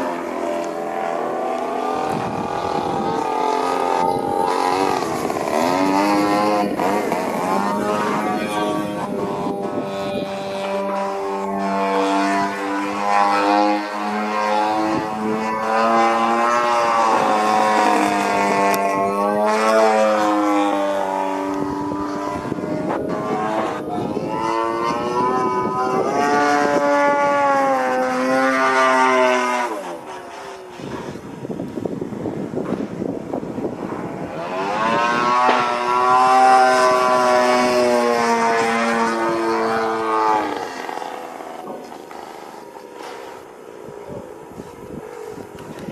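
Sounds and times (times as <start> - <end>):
model plane engine and propeller: 0.0 - 45.9.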